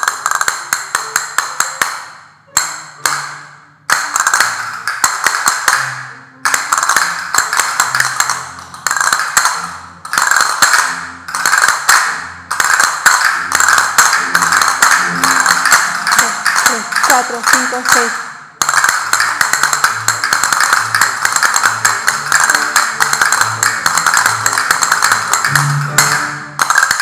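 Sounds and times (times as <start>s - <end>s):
castanets clicking: 0.0s - 27.0s.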